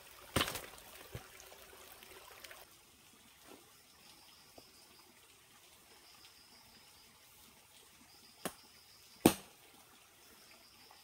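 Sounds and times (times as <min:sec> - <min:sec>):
faint stream trickling: 0:00.0 - 0:11.0.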